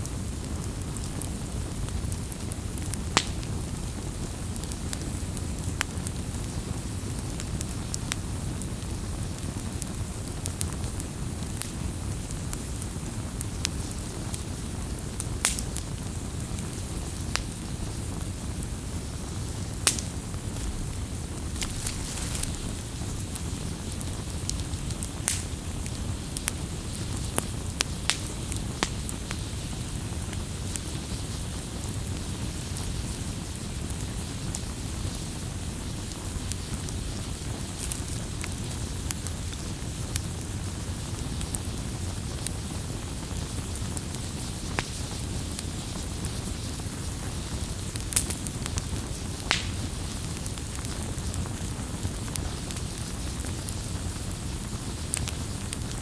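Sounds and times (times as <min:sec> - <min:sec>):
campfire rumbling and hissing: 0:00.0 - 0:56.0
wood crackling and popping: 0:00.1 - 0:56.0.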